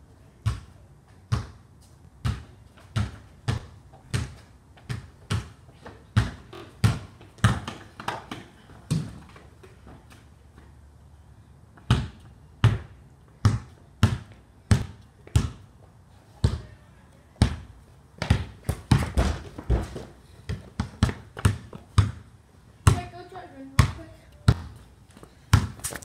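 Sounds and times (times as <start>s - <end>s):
basketball bouncing on concrete: 0.4s - 1.6s, 2.2s - 9.8s, 11.8s - 15.7s, 16.4s - 16.7s, 17.4s - 26.0s.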